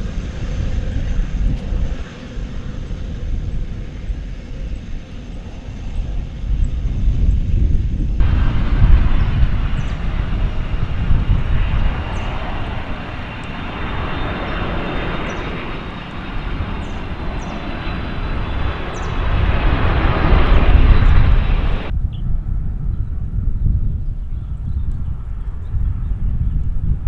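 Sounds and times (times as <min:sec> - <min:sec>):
jet engines roaring: 0:00.0 - 0:21.9.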